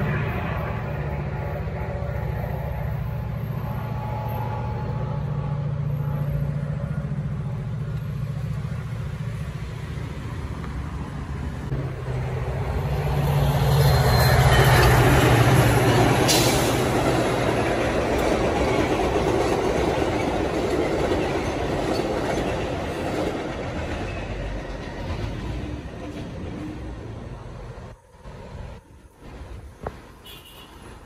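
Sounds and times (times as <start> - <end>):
locomotive engine hum: 0.0 - 30.1
train rumble: 0.0 - 30.2.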